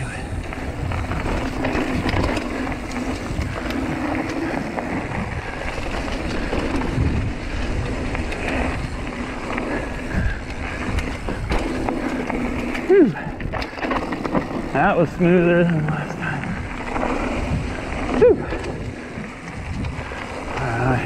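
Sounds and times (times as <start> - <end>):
bike rattling clicks and knocks: 0.0 - 21.0
bike tyres rolling on dirt: 0.0 - 21.0.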